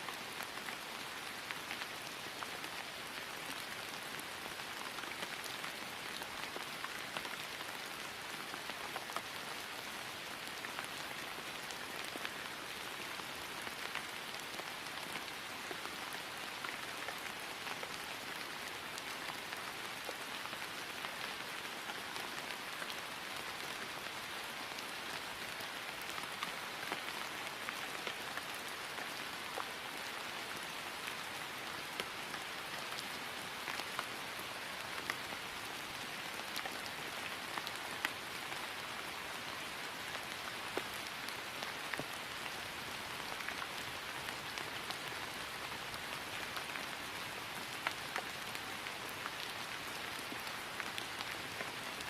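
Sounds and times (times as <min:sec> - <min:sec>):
rain falling on grass: 0:00.0 - 0:52.0.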